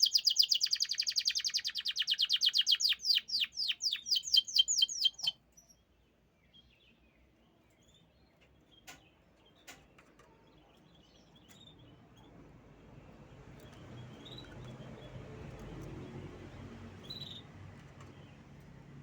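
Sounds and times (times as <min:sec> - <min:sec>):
canary chirping softly: 0:00.0 - 0:19.0.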